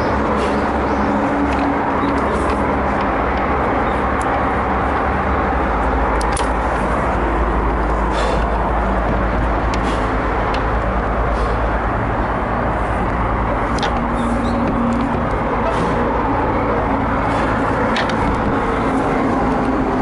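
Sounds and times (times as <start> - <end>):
climbing gear clicks and scrapes: 0.0 - 10.9, 12.8 - 16.3, 17.2 - 19.9
steady rushing noise: 0.0 - 20.0.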